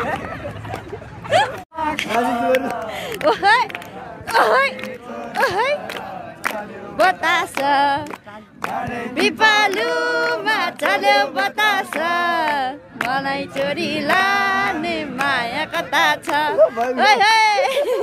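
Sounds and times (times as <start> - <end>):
voices singing together: 1.8 - 18.0.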